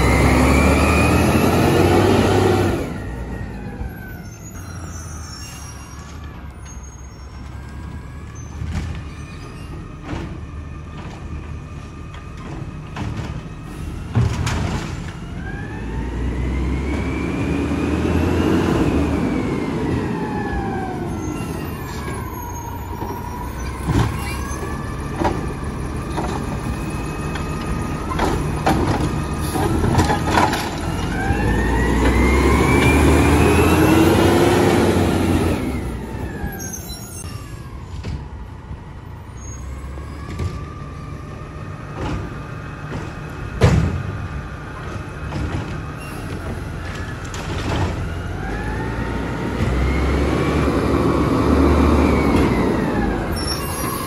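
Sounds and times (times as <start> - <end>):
garbage truck driveline whine: 0.0 - 54.0.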